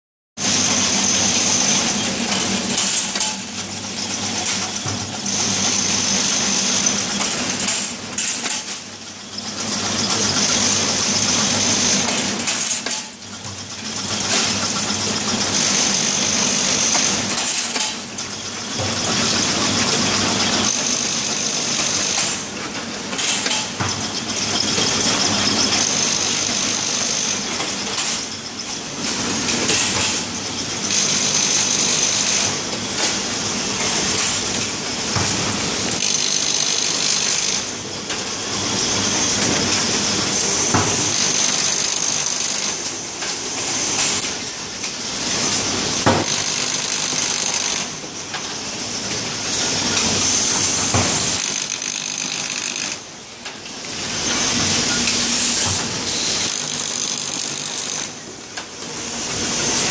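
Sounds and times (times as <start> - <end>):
clatter of sticks and feed mechanism: 0.6 - 8.9, 9.6 - 59.9.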